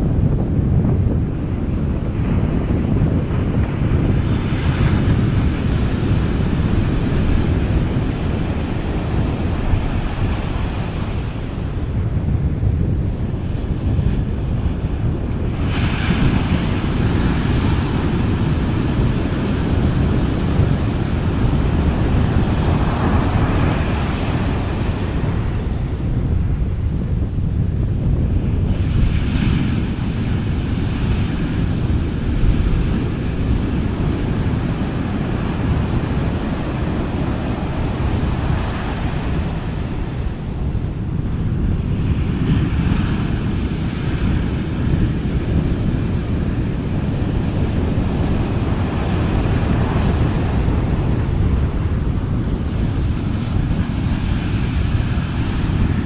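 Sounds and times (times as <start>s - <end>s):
wind rumble on microphone: 0.0s - 56.0s
sea waves breaking on beach: 1.2s - 26.9s, 28.1s - 56.0s.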